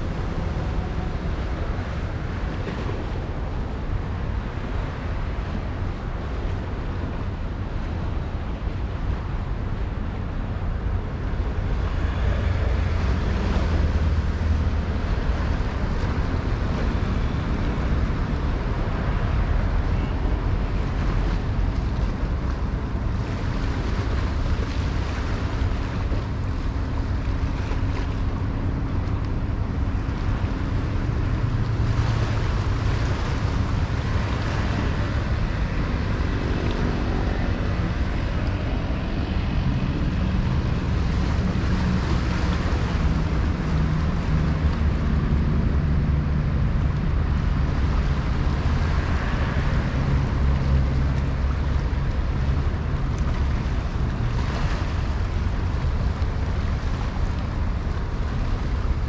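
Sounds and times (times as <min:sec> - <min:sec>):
low rumble: 0:11.0 - 0:59.0.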